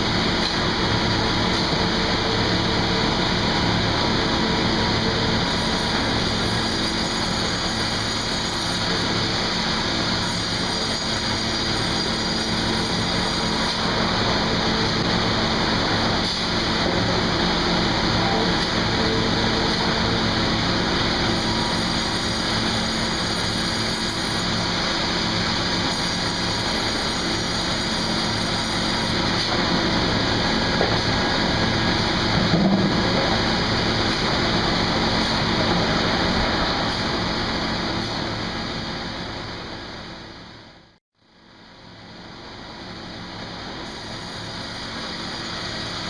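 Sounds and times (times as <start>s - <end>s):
sawmill machinery din: 0.0s - 40.6s, 41.8s - 46.0s
motor hum and hiss: 0.0s - 40.9s, 41.6s - 46.0s.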